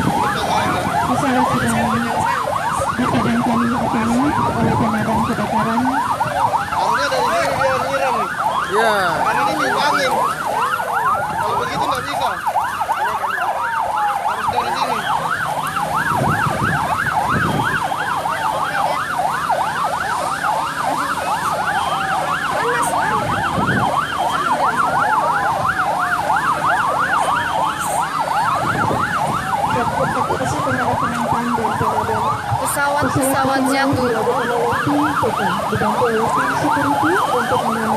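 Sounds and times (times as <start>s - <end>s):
emergency sirens yelping and wailing: 0.0s - 37.9s.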